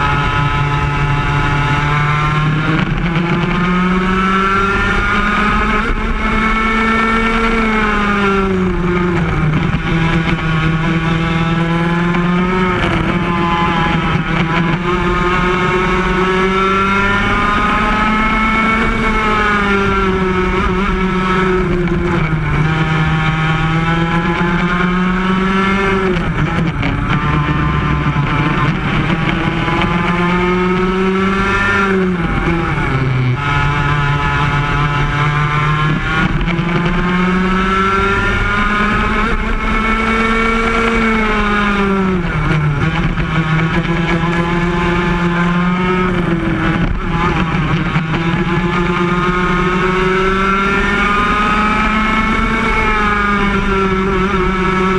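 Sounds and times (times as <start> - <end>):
two-stroke kart engine racing: 0.0 - 54.9.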